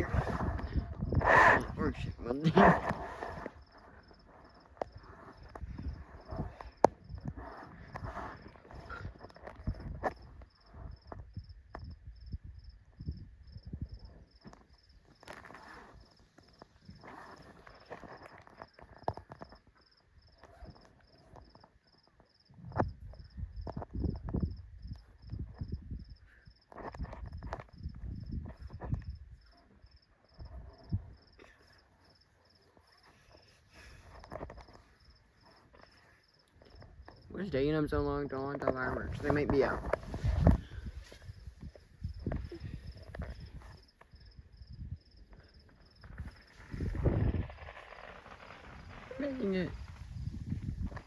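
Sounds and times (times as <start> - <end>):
cricket chirping: 0.0 - 51.0.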